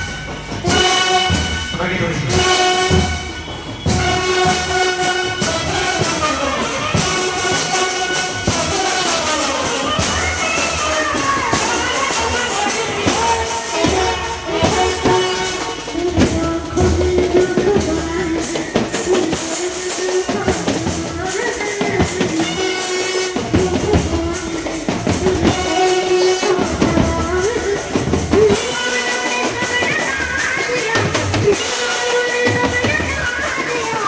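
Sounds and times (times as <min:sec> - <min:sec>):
steady drum beat: 0:00.0 - 0:34.0.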